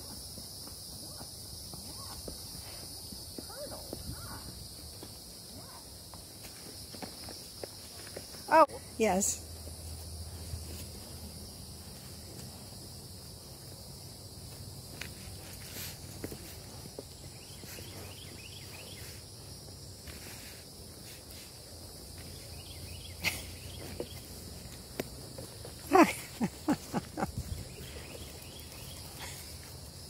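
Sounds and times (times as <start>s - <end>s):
horse hooves walking on grass: 0.0s - 8.5s, 9.4s - 23.0s, 23.6s - 30.0s
insects buzzing: 0.0s - 30.0s.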